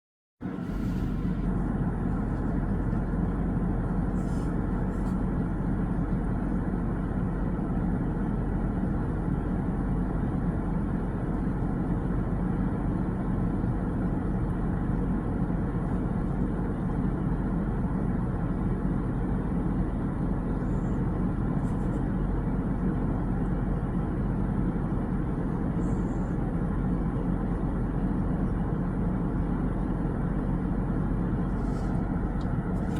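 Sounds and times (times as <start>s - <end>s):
low rumbling background noise: 0.4s - 32.9s.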